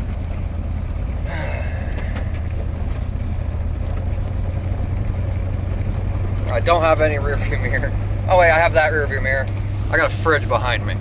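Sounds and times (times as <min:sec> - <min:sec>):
road rumble inside truck cab: 0:00.0 - 0:11.0.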